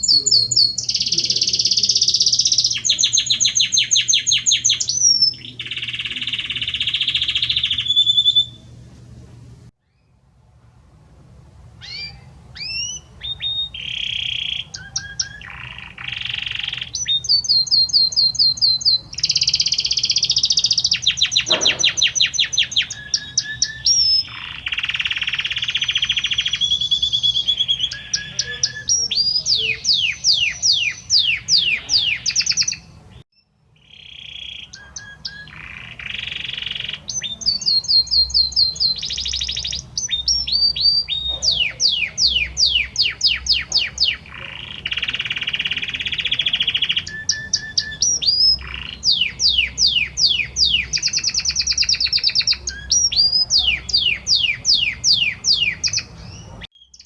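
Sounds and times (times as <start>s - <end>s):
canary singing trills: 0.0s - 10.3s, 11.8s - 57.0s.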